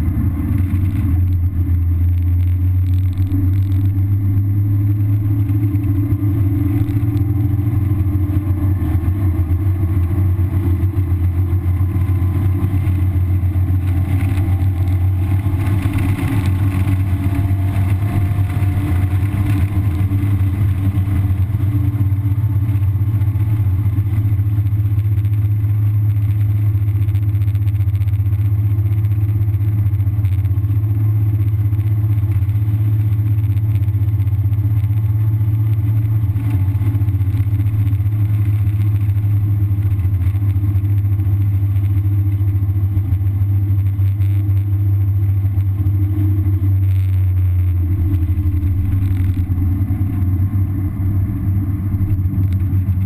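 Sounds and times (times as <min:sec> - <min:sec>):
car engine drone from inside: 0:00.0 - 0:53.0
road and wind noise: 0:00.0 - 0:53.0.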